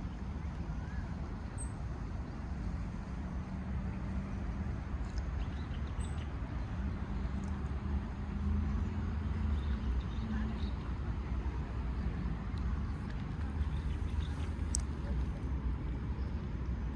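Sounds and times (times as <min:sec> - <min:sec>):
low outdoor rumble: 0:00.0 - 0:16.9.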